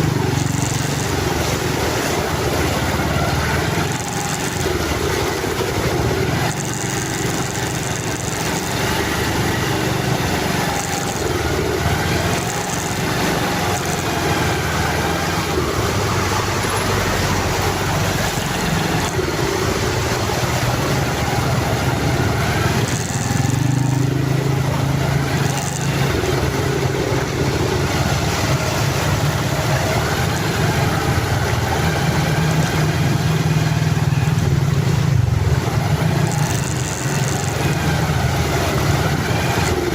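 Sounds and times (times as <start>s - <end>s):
noisy hiss: 0.0s - 39.9s
vehicle engine running: 0.0s - 39.9s.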